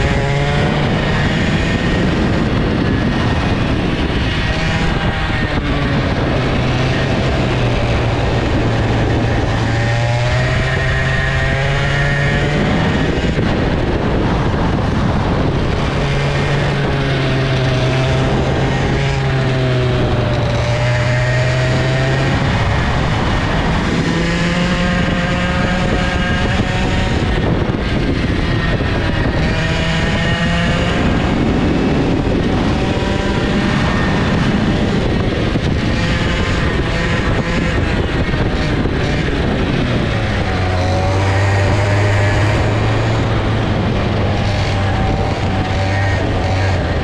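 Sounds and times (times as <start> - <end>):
kart engine revving: 0.0 - 47.0.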